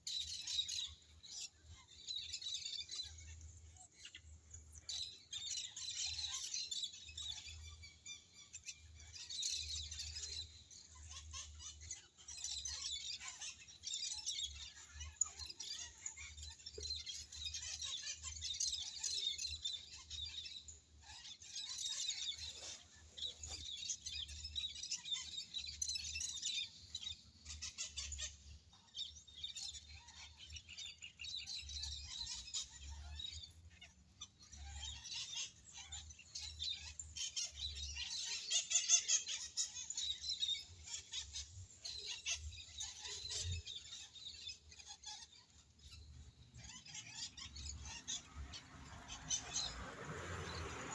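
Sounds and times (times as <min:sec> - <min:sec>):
small birds chirping and twittering: 0:00.0 - 0:50.9.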